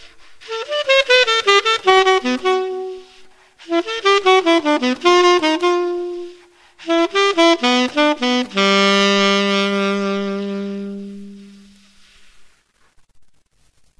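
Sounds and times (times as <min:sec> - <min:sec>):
solo saxophone: 0:00.0 - 0:12.4.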